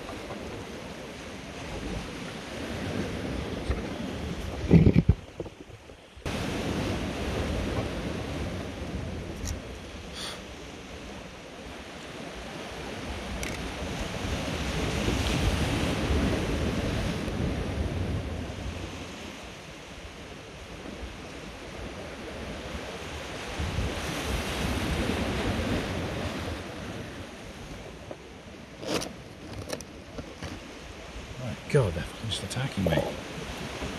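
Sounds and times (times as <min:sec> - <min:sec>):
wind buffeting microphone: 0:00.0 - 0:10.0, 0:12.2 - 0:32.0
waves breaking over rocks: 0:00.0 - 0:33.9.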